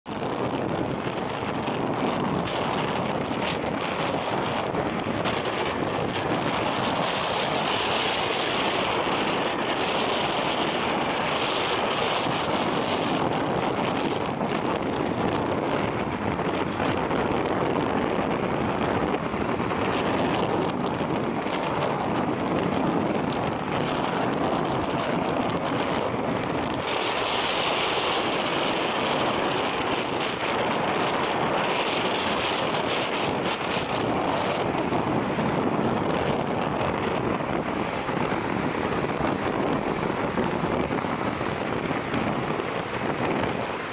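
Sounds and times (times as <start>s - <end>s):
wind rushing across microphone: 0.0s - 43.9s.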